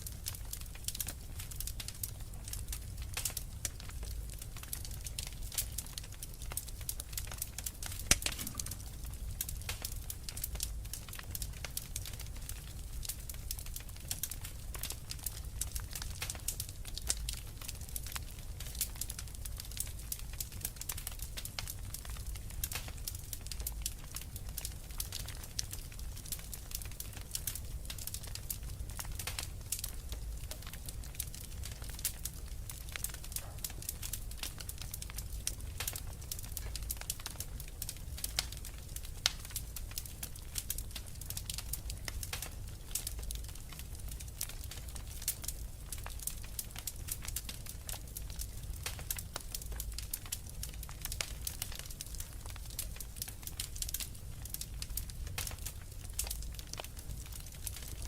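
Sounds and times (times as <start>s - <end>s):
low rumble of fire: 0.0s - 58.0s
wood fire crackling and popping: 0.0s - 58.0s.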